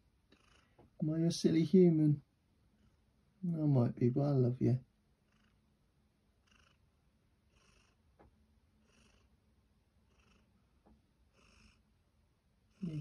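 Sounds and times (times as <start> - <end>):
cat purring: 0.2 - 4.3, 5.2 - 12.0, 12.6 - 13.0.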